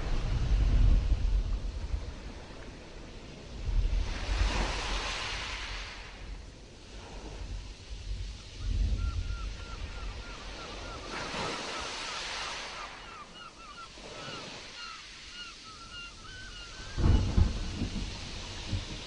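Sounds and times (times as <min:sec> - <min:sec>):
sea waves washing in: 0:00.0 - 0:19.0
wind gusts on microphone: 0:00.0 - 0:19.0.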